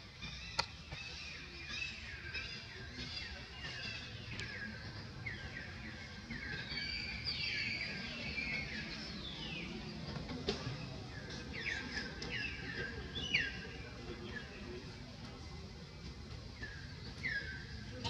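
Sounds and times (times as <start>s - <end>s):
small birds chirping: 0.1s - 15.4s, 16.5s - 18.0s.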